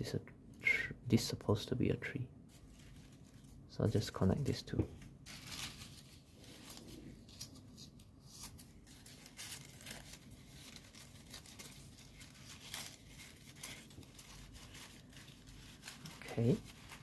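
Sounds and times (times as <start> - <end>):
folded paper rustling and scraping: 2.5 - 17.0.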